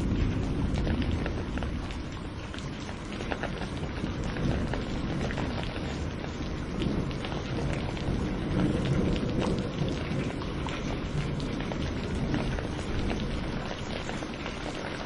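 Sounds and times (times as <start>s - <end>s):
low thunder rumble: 0.0s - 15.0s
rain drops ticking: 0.0s - 15.0s.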